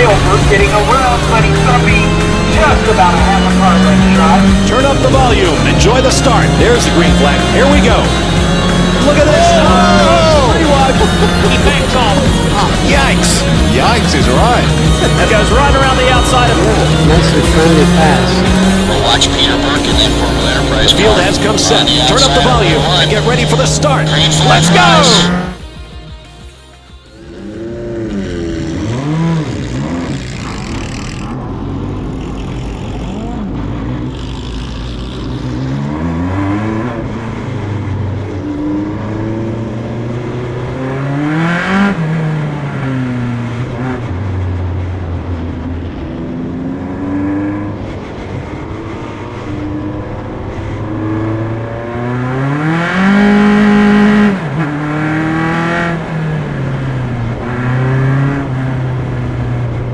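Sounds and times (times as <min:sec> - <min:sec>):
race car engine revving: 0:00.0 - 0:26.0, 0:26.6 - 0:59.9.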